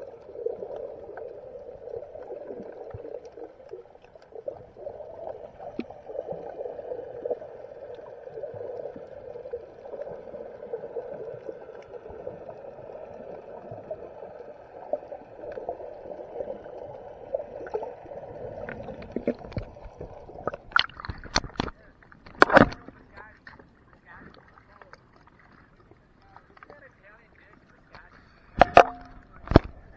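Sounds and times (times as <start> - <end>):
muffled underwater water noise: 0.0 - 29.9.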